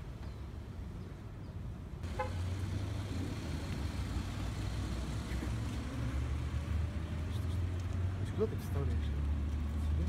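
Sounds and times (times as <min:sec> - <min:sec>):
vehicle and traffic rumble: 0:00.0 - 0:10.0.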